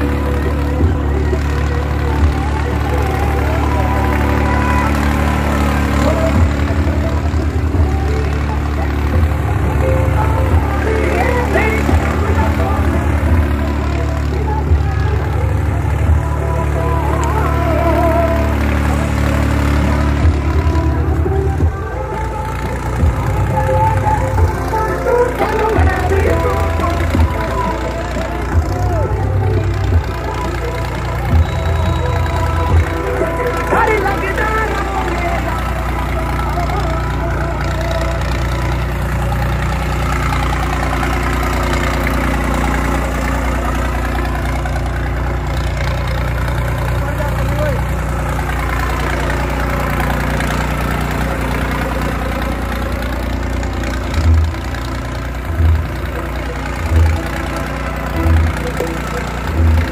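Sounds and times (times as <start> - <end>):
background music with steady beat: 0.0 - 59.9
tractor engine running: 0.0 - 59.9.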